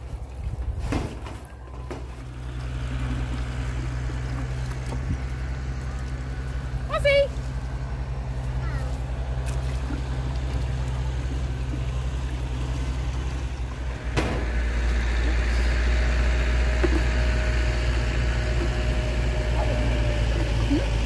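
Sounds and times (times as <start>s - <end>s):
lawn mower engine droning: 1.6s - 21.0s.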